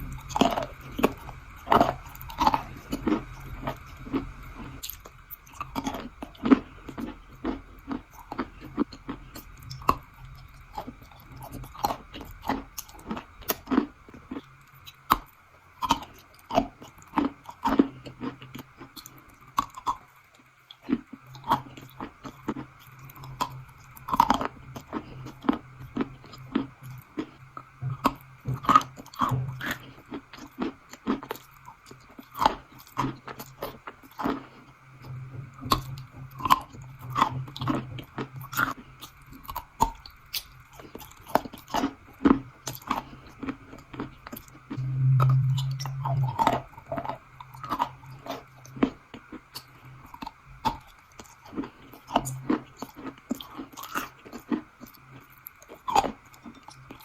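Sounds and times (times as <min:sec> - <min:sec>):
low steady hum: 0:00.0 - 0:57.0
person chewing crunchy food: 0:00.0 - 0:57.0.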